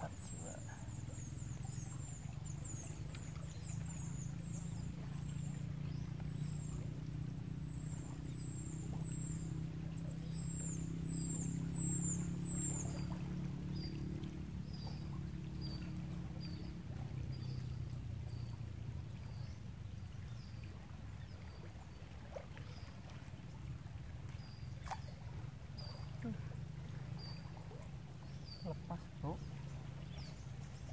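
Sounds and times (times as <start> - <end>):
motor humming low: 0.0 - 30.9.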